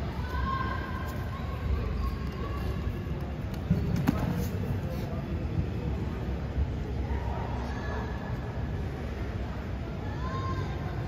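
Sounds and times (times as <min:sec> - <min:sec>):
indistinct crowd voices: 0:00.0 - 0:11.0
low rumble of hall noise: 0:00.0 - 0:11.0.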